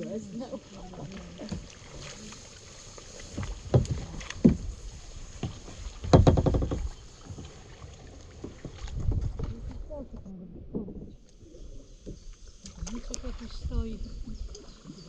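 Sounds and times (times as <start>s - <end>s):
paddle splashes and knocks: 0.0s - 11.4s, 12.0s - 15.0s.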